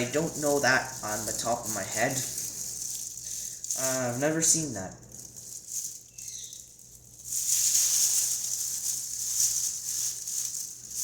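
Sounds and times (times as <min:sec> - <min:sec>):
faint low hum: 0:00.0 - 0:11.0
scratchy rustling handling noise: 0:00.0 - 0:11.0.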